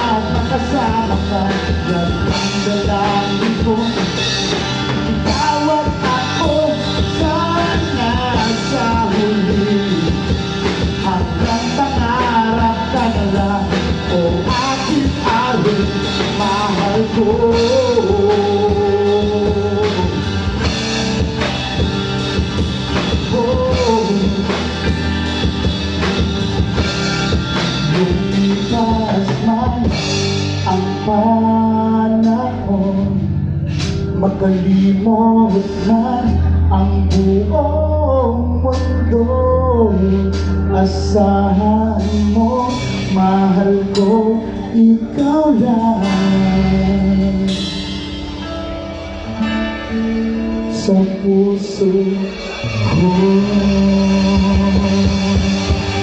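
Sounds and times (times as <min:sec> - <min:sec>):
live band playing pop-rock: 0:00.0 - 0:56.0.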